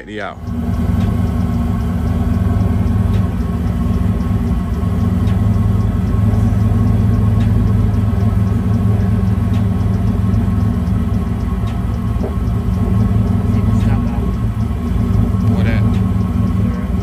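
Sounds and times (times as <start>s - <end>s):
faint tick: 0.4s - 17.0s.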